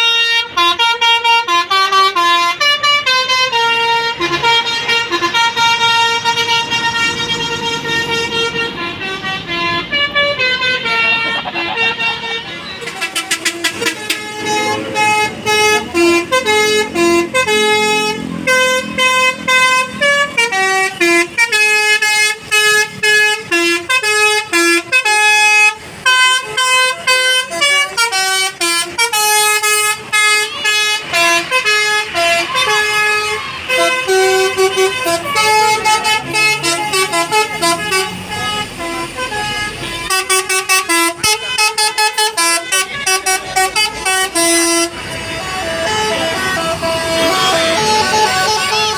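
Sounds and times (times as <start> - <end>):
bus musical horn playing a tune: 0.0 - 48.9.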